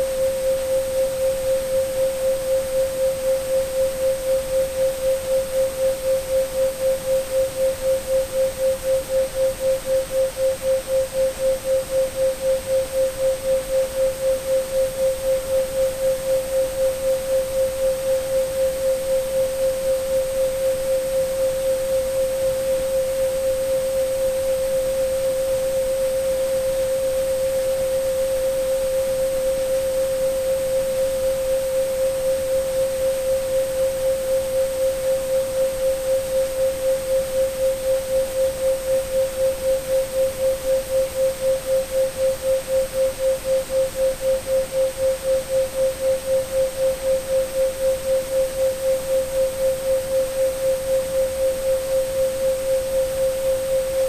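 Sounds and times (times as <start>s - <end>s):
pulsing sine tone: 0.0s - 54.0s
soft noise hiss: 0.0s - 54.0s.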